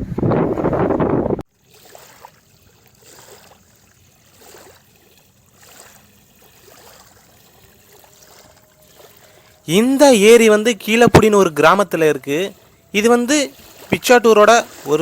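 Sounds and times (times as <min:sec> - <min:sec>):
waves lapping at shore: 0:01.5 - 0:15.0.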